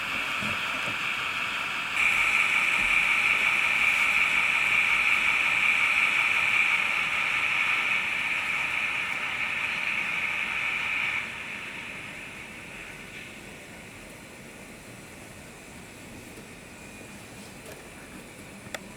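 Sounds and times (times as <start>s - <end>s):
model train whirring on track: 0.0s - 18.9s.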